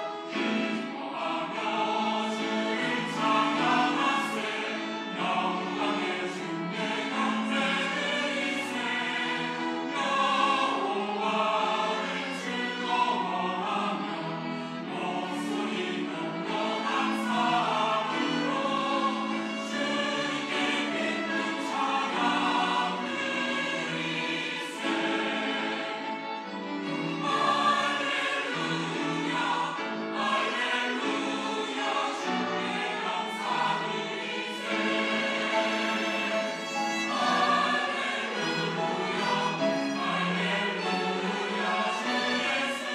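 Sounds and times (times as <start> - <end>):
choir singing in harmony: 0.0 - 42.9.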